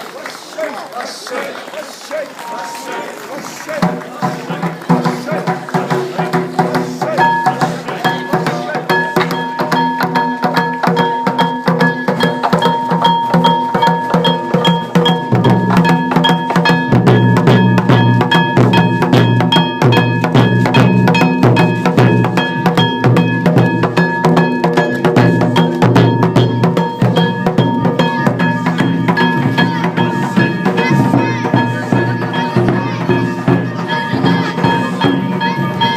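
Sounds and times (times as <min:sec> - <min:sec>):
taiko drums: 0:02.4 - 0:35.9.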